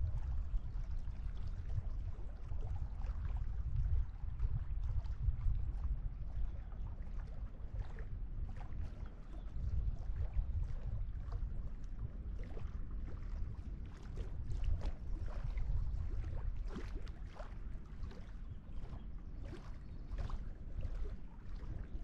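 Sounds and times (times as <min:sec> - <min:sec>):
low rumble of wind: 0:00.0 - 0:22.0.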